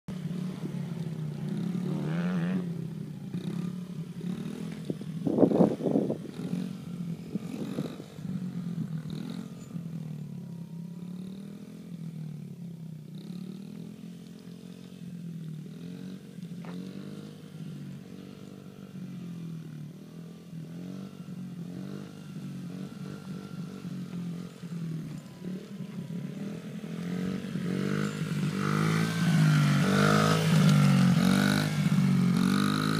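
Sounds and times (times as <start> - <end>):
dirt bike engine running: 0.1 - 32.9.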